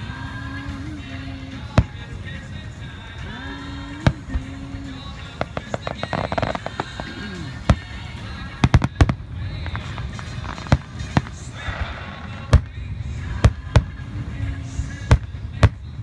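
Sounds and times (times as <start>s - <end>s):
low rumble: 0.0s - 16.0s
fireworks bangs: 1.5s - 3.2s, 3.8s - 16.0s.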